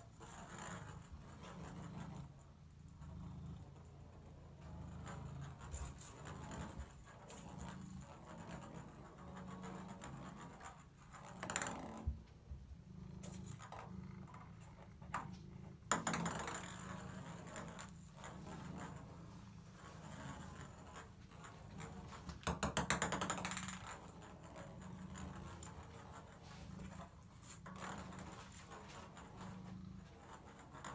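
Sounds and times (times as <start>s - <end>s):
ball rolling in bathtub: 0.0s - 30.9s
cat purring: 0.0s - 30.9s.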